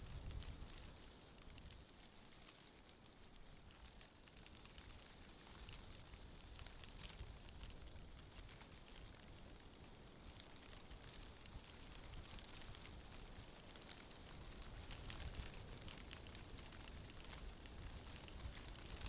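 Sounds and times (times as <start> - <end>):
wind rustling tree leaves: 0.0 - 2.0, 3.3 - 19.0.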